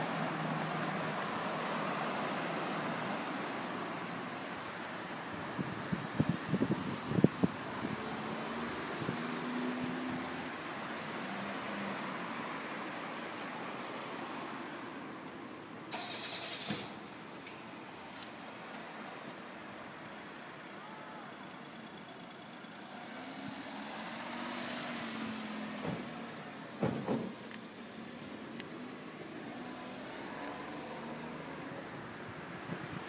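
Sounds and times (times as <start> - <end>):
street noise: 0.0 - 33.0.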